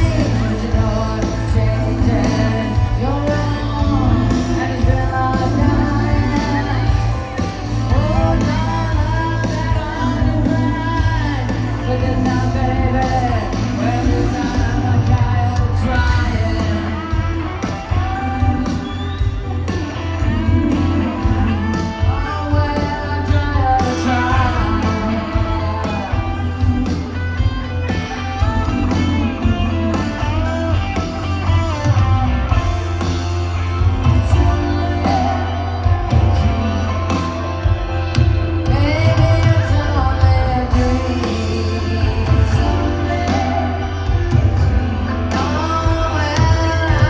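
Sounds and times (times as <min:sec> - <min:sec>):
woman singing: 0:00.0 - 0:31.7, 0:34.0 - 0:47.0
live rock band: 0:00.0 - 0:47.0.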